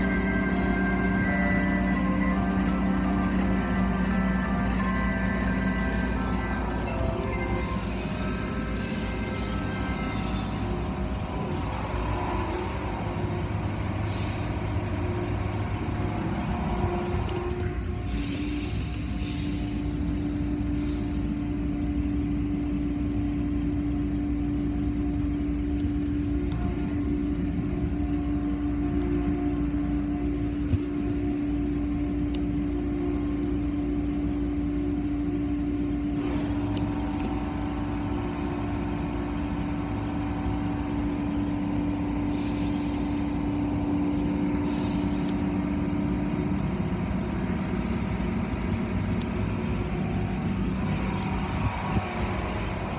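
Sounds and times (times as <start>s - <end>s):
droning hum: 0.0s - 52.9s
low mechanical rumble: 0.0s - 52.9s.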